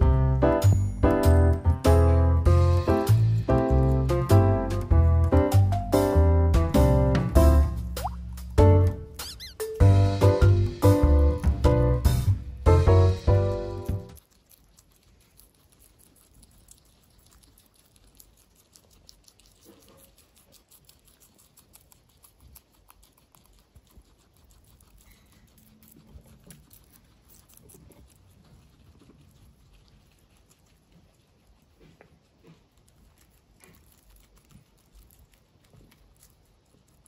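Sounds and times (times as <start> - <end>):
guinea pigs chewing greens: 0.0 - 37.0.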